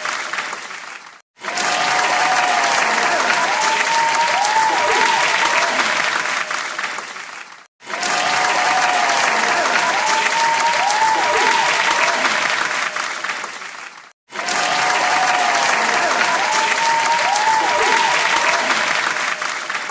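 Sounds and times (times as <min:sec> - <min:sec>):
crowd clapping: 0:00.0 - 0:19.9
people cheering: 0:00.0 - 0:19.9.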